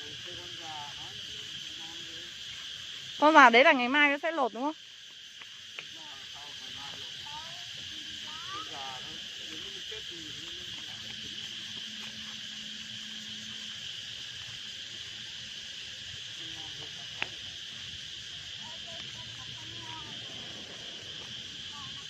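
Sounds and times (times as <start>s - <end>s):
insects chorus: 0.0s - 22.0s.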